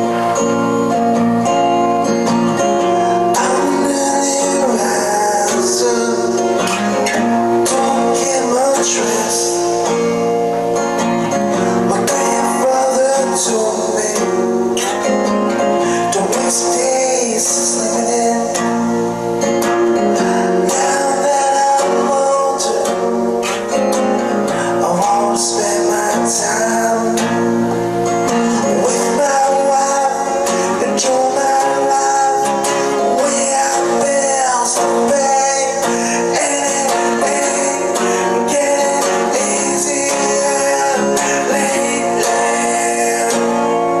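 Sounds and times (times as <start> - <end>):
strummed acoustic guitar song: 0.0 - 44.0.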